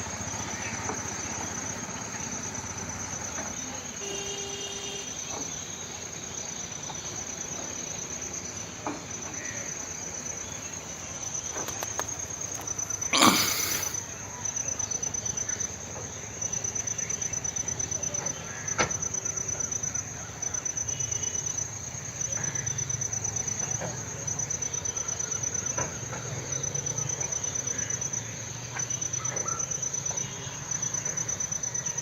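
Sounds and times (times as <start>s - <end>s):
insects trilling: 0.2s - 32.0s.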